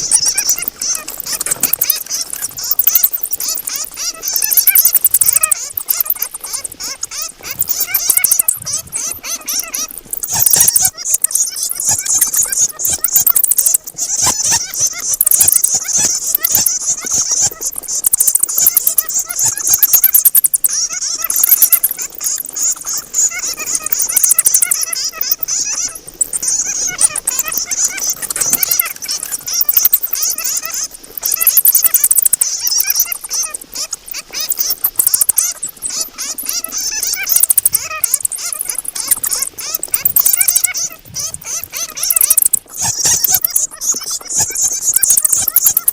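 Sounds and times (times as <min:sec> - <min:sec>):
bats squeaking and chattering: 0:00.0 - 0:45.9.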